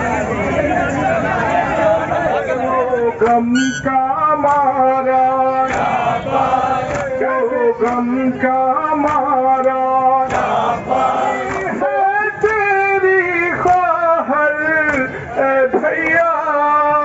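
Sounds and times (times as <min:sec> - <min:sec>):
men chanting a lament: 0:00.0 - 0:17.0
rhythmic chest-beating slaps: 0:02.5 - 0:17.0.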